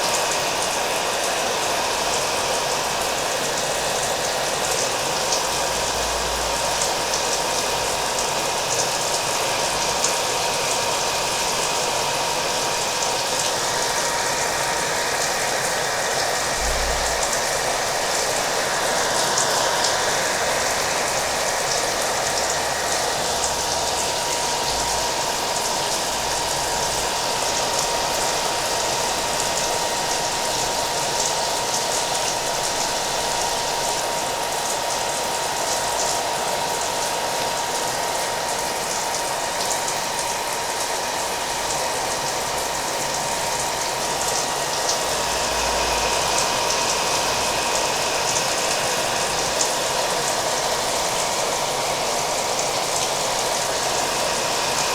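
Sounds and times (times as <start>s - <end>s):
hair dryer running: 0.0s - 54.9s.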